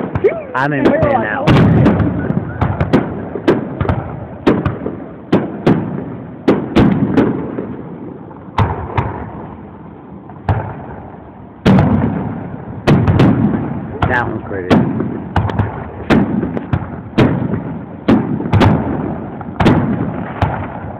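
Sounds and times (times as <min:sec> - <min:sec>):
firework shells bursting with echo: 0:00.0 - 0:20.9.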